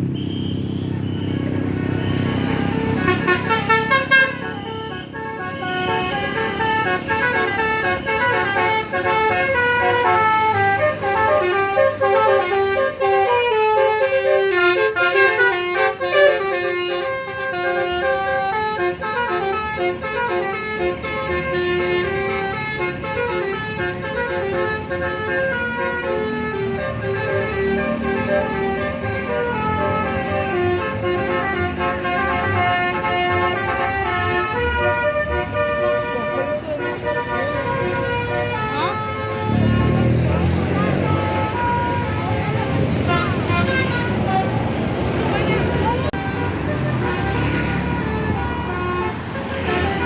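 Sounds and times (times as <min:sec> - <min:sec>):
musical bus horn melody: 0:00.0 - 0:50.0.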